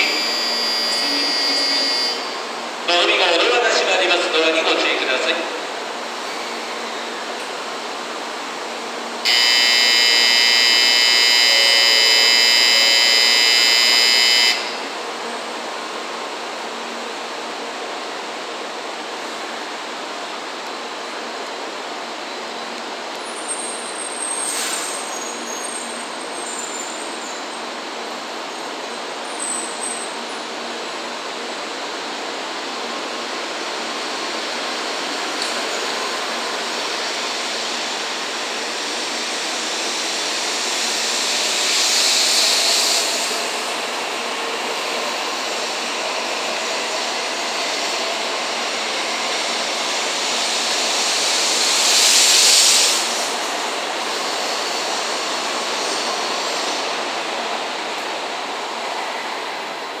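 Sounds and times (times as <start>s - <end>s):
high-speed train rushing noise: 0.0s - 60.0s
loud hissing of passing train: 0.0s - 60.0s.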